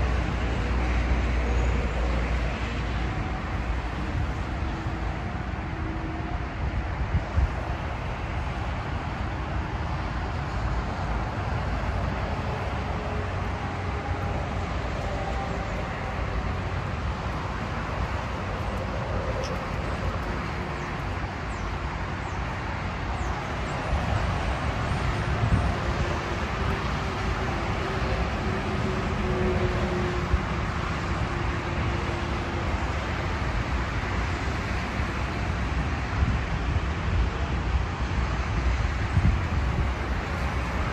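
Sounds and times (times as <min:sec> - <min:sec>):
motorway traffic: 0:00.0 - 0:40.9
wind rumbling on microphone: 0:00.0 - 0:40.9.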